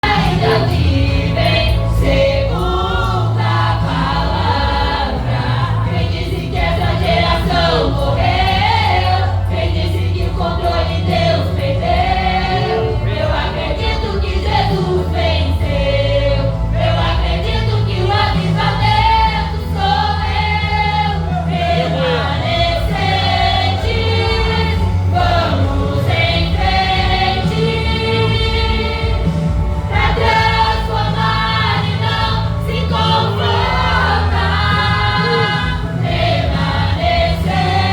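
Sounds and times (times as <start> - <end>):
instrumental accompaniment with bass: 0.0 - 37.9
vocal group singing gospel: 0.0 - 37.9.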